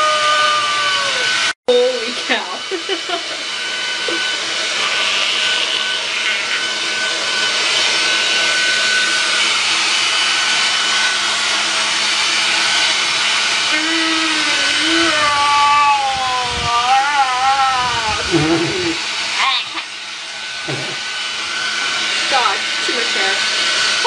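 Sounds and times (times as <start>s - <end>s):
hair dryer blowing: 0.0s - 24.0s.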